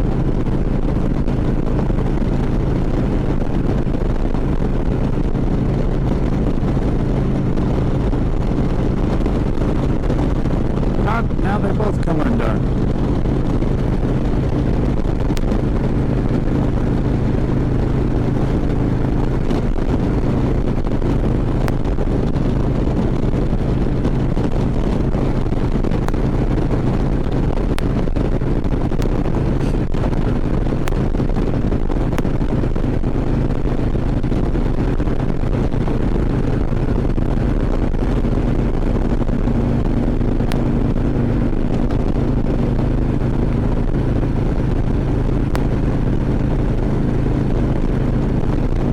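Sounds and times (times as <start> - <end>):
motorcycle engine running: 0.0 - 48.9
road noise: 0.0 - 48.9
rushing wind: 0.0 - 48.9.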